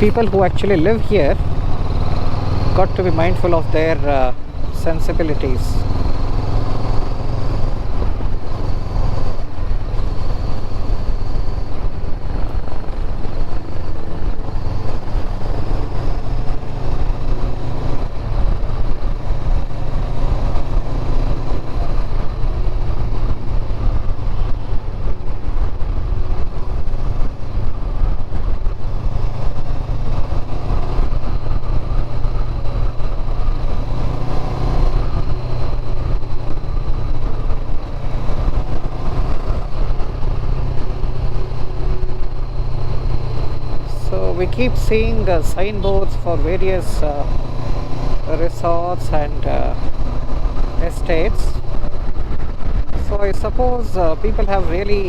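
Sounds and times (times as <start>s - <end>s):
motorcycle engine running: 0.0s - 55.0s
road noise: 0.0s - 55.0s
wind noise: 0.0s - 55.0s.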